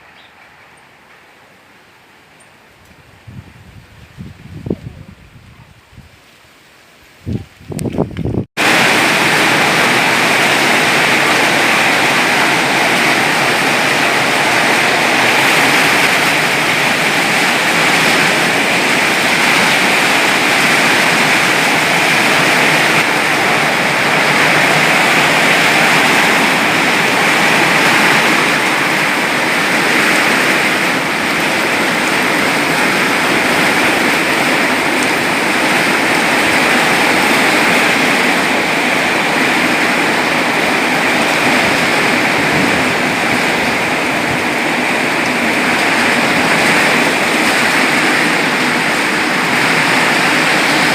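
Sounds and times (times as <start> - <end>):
heavy rain hissing: 8.6 - 50.9.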